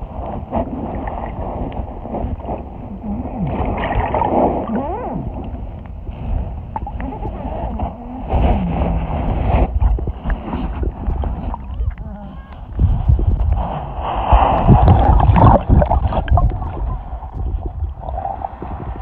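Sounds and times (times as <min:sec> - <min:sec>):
muffled underwater water rumble: 0:00.0 - 0:19.0.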